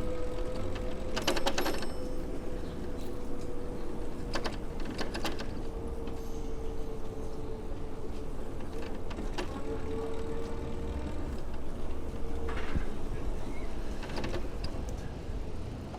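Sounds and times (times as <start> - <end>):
city street rumble: 0.0 - 15.9.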